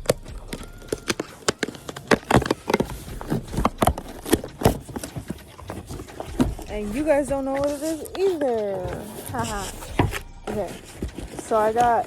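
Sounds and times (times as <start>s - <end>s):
package crinkling: 0.0s - 6.7s, 7.4s - 12.0s.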